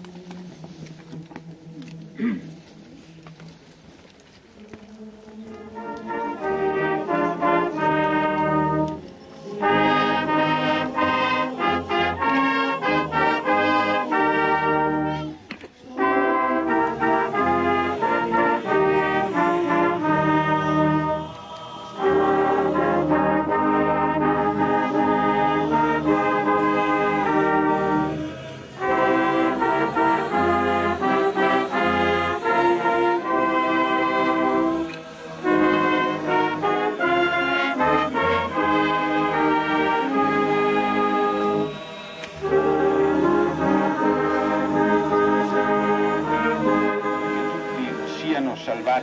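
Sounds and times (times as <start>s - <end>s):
brass band playing: 5.0s - 49.0s.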